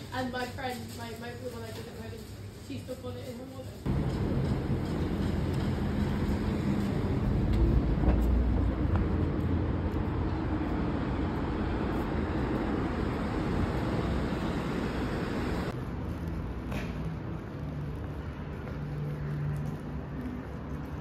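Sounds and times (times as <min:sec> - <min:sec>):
cars passing on road: 0:03.8 - 0:21.0.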